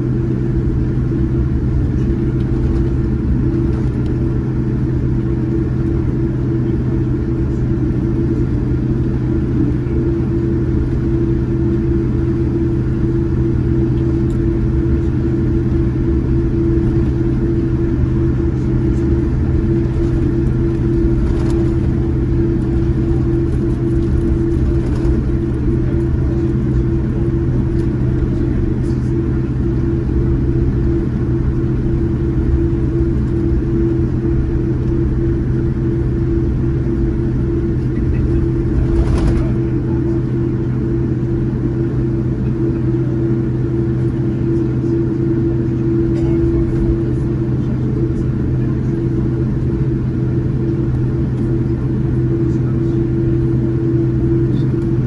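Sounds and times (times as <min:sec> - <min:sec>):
airplane cabin rumble: 0:00.0 - 0:55.0
constant hum: 0:00.0 - 0:55.0.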